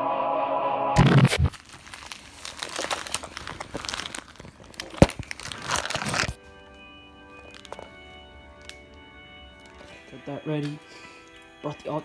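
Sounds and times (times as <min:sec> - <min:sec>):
crinkling and rustling handling: 0:01.5 - 0:11.5.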